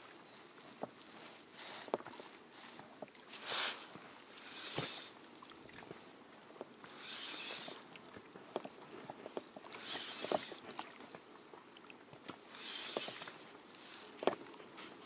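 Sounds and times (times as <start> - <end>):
small waves lapping against boat hull: 0.0 - 15.0.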